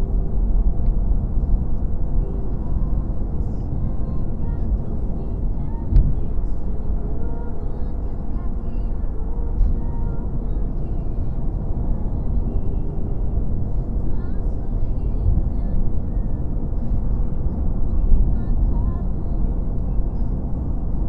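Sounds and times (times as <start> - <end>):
car road and engine rumble: 0.0 - 21.0
faint music: 0.0 - 21.0.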